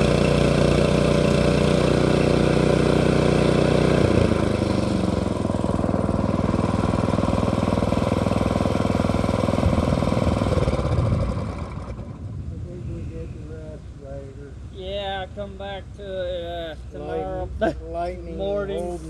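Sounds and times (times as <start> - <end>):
engine running: 0.0 - 16.2.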